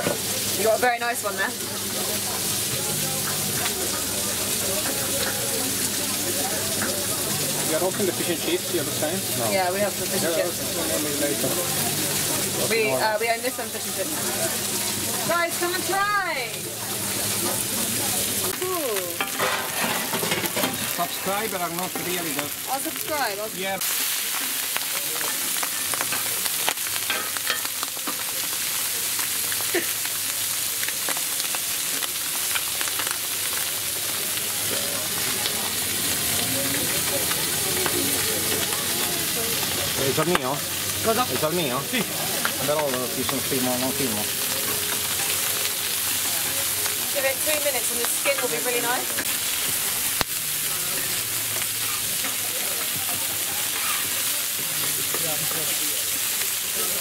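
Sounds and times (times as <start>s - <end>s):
chicken sizzling on a griddle: 0.0s - 57.0s.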